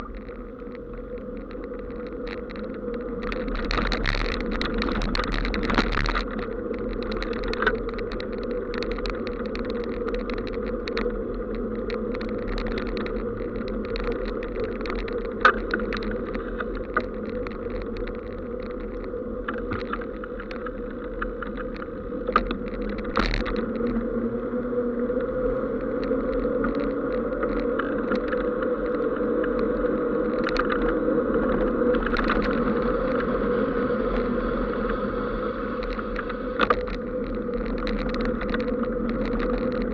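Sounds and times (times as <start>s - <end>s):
road noise drone: 0.0s - 39.9s.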